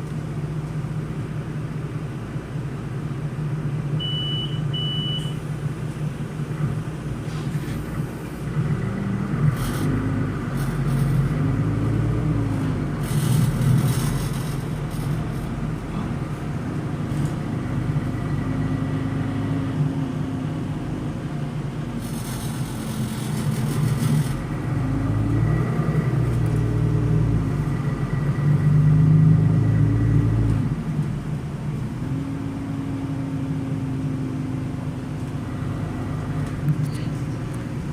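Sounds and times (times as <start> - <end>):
bus diesel engine: 0.0 - 37.9.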